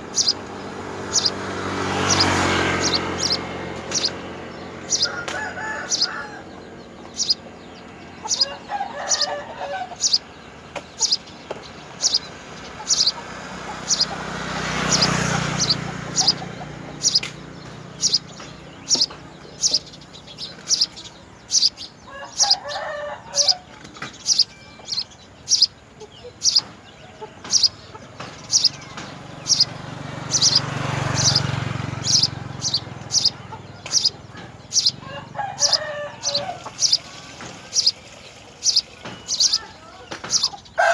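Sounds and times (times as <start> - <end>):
sparrow chirping: 0.0 - 40.9.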